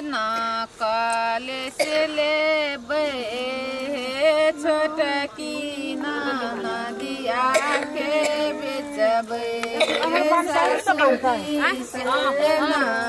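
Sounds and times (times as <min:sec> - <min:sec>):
women singing: 0:00.0 - 0:13.0.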